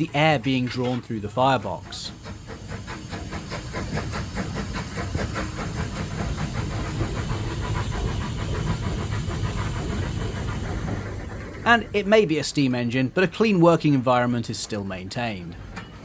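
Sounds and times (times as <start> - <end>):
steam locomotive exhaust chuffs: 0.0 - 13.4.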